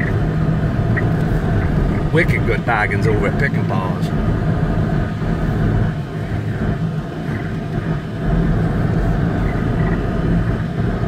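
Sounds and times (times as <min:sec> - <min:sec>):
vehicle cabin engine and tyre drone: 0:00.0 - 0:11.0.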